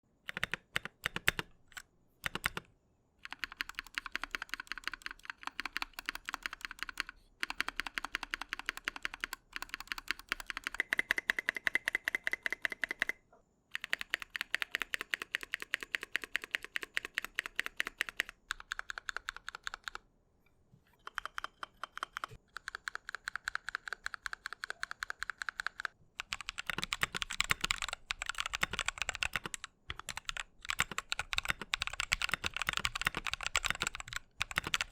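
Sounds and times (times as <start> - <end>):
mechanical keyboard typing: 0.3 - 20.0, 21.0 - 34.9.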